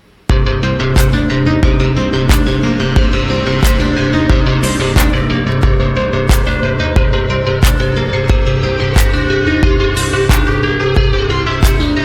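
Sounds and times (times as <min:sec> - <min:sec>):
rock music with drums and guitar: 0:00.3 - 0:12.0.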